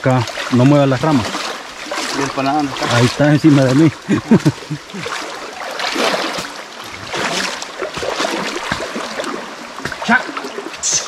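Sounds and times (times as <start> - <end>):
creek water sloshing and splashing: 0.0 - 11.0.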